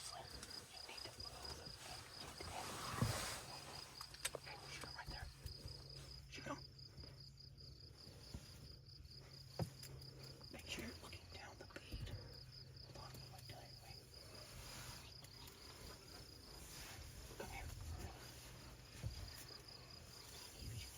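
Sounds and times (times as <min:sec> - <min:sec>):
insect chirping: 0:00.0 - 0:20.9
low steady hum: 0:00.0 - 0:20.9.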